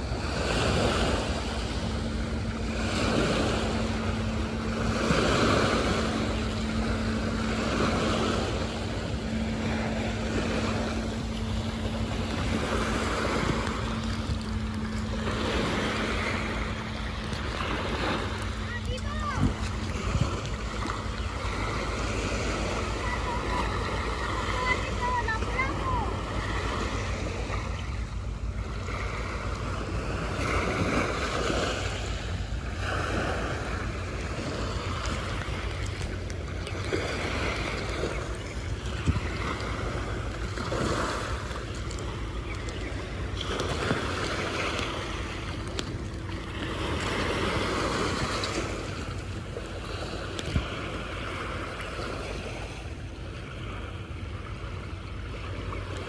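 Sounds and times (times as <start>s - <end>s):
small waves on pebbly shore: 0.0s - 56.0s
wind rumbling on microphone: 0.0s - 56.0s.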